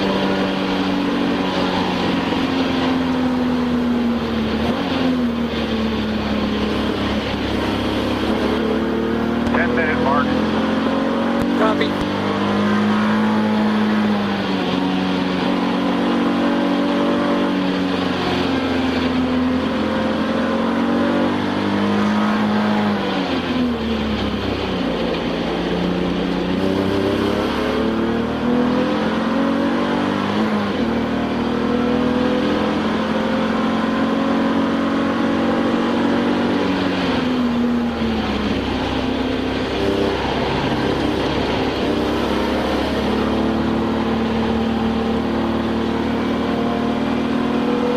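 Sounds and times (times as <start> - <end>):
race car engine shifting gears: 0.0 - 47.9.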